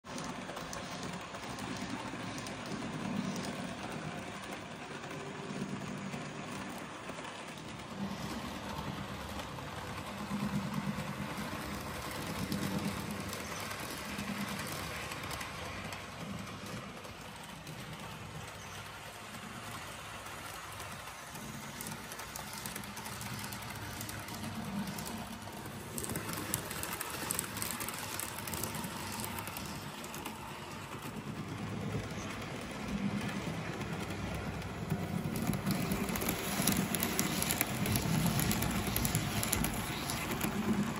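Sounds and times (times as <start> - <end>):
model train rattling hiss: 6.2 - 40.9.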